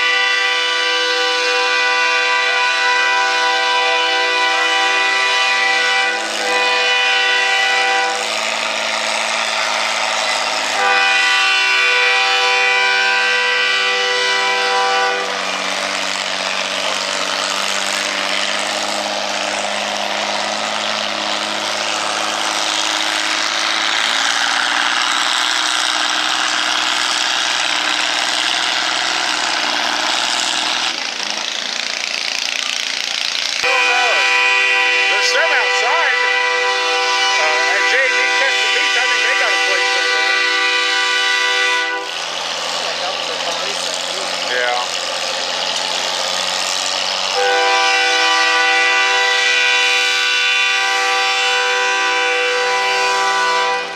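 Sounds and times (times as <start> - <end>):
tractor engine droning: 0.0 - 53.9.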